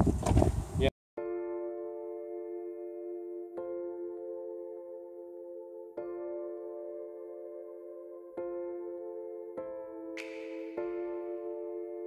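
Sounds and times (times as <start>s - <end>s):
keyboard chords: 1.2s - 12.0s.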